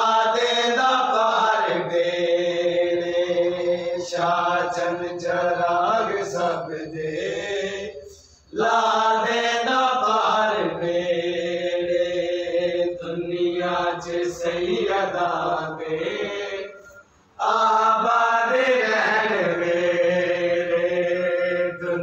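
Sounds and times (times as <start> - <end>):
person chanting: 0.0 - 22.0.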